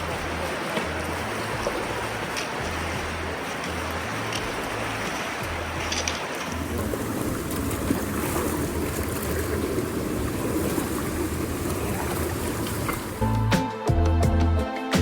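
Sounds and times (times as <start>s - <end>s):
river water flowing: 0.0s - 13.9s.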